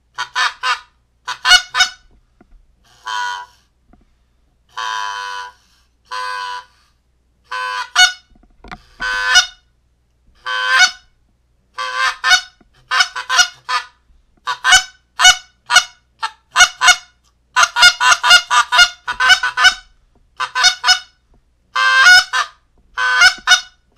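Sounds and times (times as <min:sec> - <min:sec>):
goose call honks and clucks: 0:00.1 - 0:02.1, 0:02.9 - 0:03.7, 0:04.7 - 0:06.8, 0:07.5 - 0:09.7, 0:10.4 - 0:11.1, 0:11.8 - 0:23.9.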